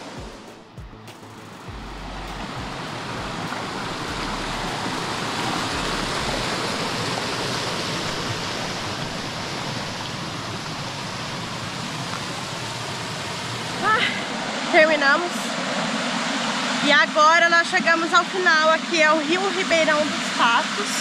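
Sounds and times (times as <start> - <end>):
river rushing over rapids: 1.6 - 21.0.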